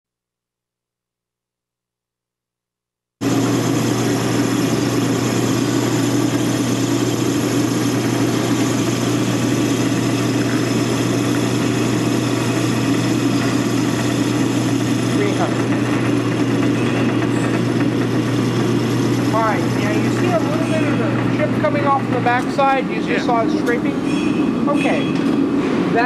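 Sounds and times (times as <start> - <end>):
metal lathe humming: 3.2 - 25.6.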